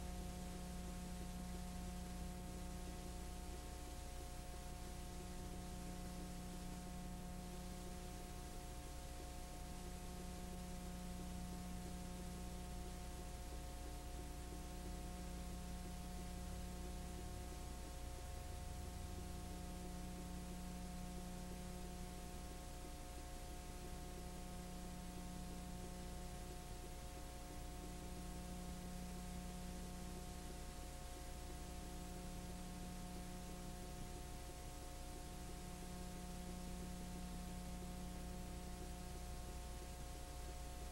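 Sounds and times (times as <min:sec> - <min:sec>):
constant hiss: 0:00.0 - 0:40.9
electrical hum: 0:00.0 - 0:40.9
faint steady tones: 0:00.0 - 0:40.9.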